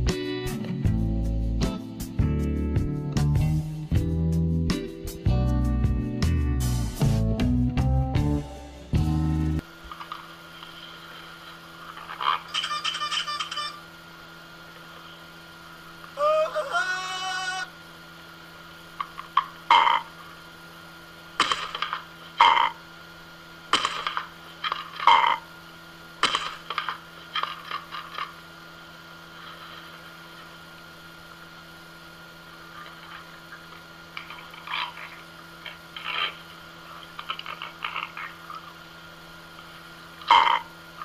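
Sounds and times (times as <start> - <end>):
steady electrical hum: 0.0 - 41.0.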